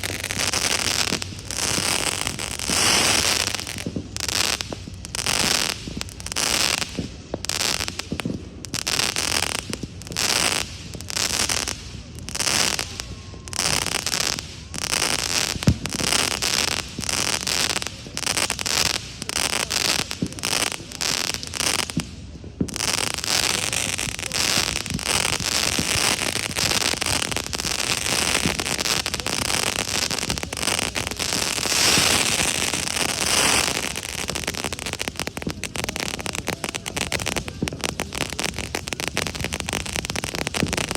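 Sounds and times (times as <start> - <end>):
fireworks crackling: 0.0 - 40.9.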